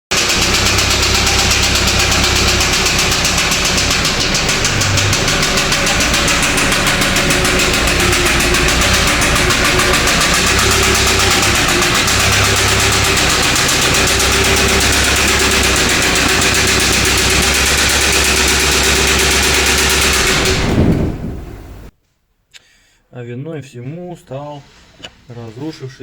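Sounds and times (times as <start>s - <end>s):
diesel engine knocking: 0.1s - 21.9s.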